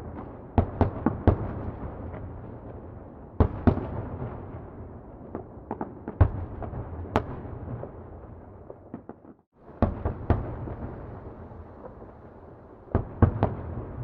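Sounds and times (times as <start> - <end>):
distant fireworks bangs: 0.0 - 14.0.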